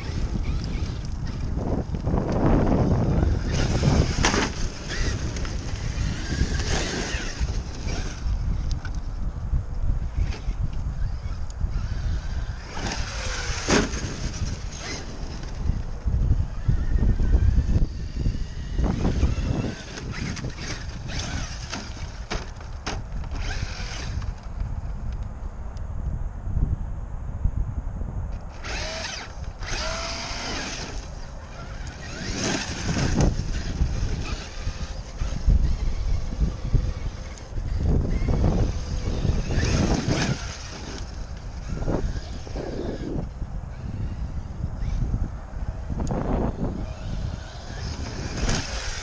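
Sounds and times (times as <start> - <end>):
distant rc truck motor and tyres: 0.0 - 49.0
wind rumbling on microphone: 0.0 - 49.0.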